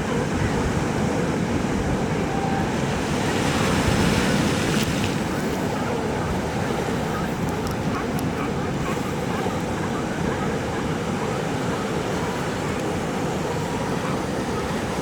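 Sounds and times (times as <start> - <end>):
surf washing on rocks: 0.0 - 15.0.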